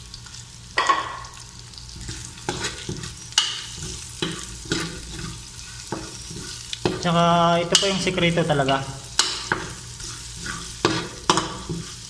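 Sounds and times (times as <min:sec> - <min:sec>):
garlic sizzling in oil: 0:00.0 - 0:12.0.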